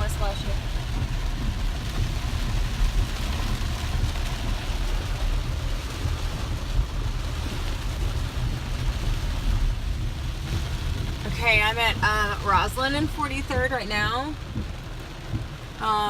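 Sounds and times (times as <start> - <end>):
engine and road rumble: 0.0 - 16.0
water hissing from tyres: 0.0 - 16.0.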